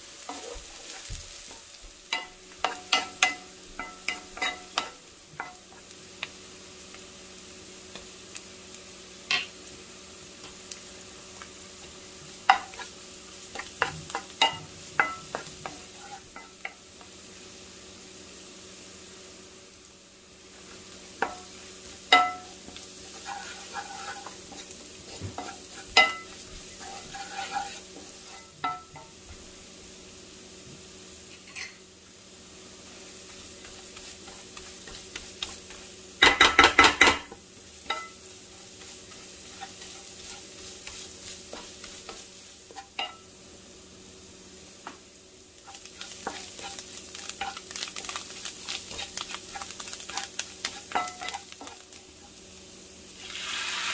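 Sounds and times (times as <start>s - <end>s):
food sizzling in a pan: 0.0s - 53.9s.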